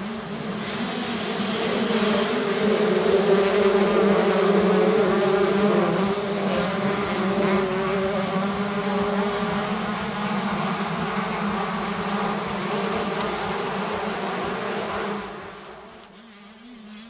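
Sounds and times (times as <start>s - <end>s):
motocross bikes revving high: 0.0s - 17.0s.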